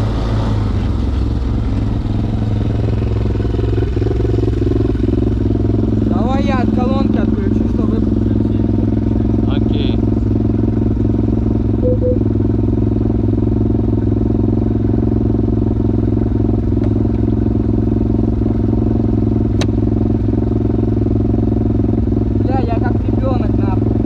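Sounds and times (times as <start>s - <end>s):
motorcycle engine running steadily: 0.0s - 24.0s.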